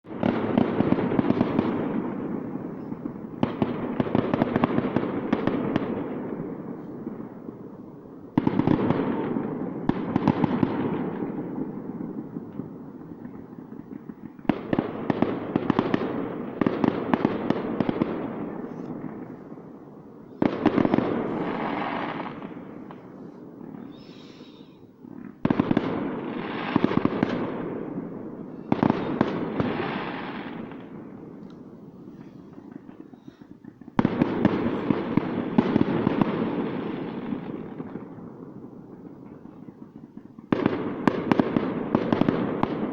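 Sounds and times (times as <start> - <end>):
distant fireworks bangs and crackling: 0.0 - 42.9.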